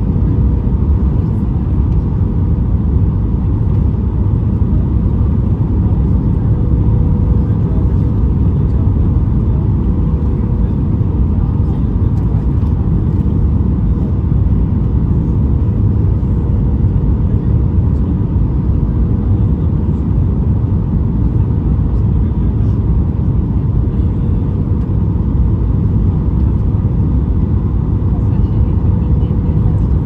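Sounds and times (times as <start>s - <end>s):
airplane cabin engine rumble: 0.0s - 30.0s.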